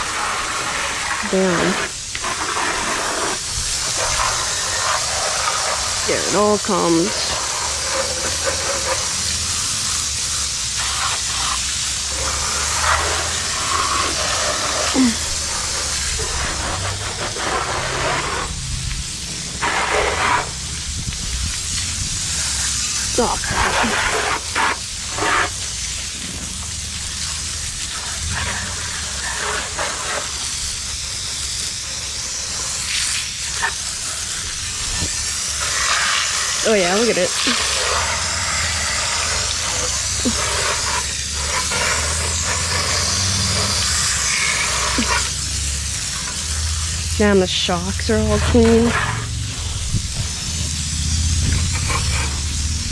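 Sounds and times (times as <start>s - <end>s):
water spraying: 0.0s - 52.9s.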